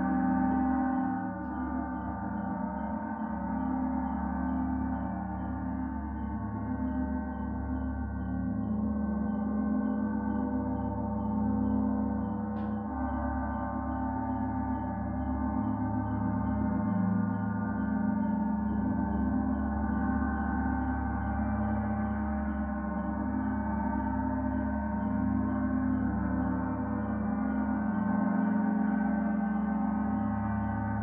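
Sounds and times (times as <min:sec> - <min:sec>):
gong drone: 0:00.0 - 0:31.0.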